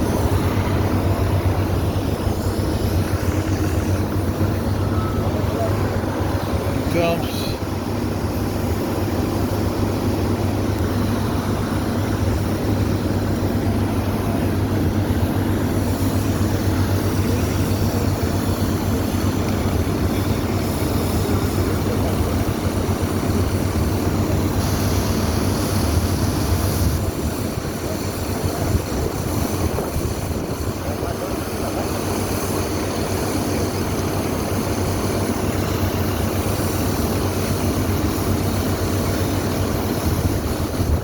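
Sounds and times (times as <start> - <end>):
heavy machine engine drone: 0.0 - 41.0.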